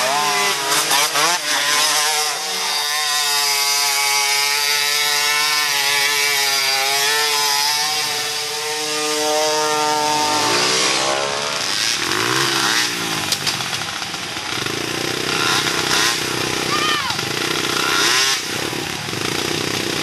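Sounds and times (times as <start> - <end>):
racing engines revving: 0.0 - 20.0.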